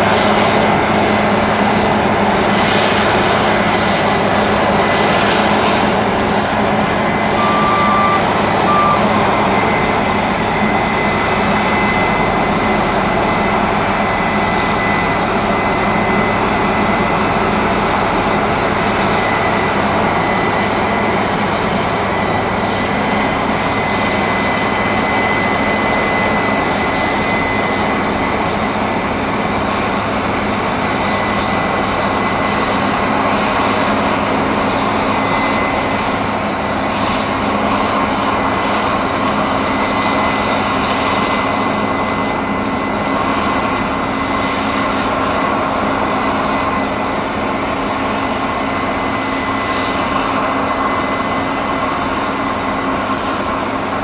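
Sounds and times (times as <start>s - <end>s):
combine harvester engine drone: 0.0s - 54.0s
high machinery whine: 0.0s - 54.0s.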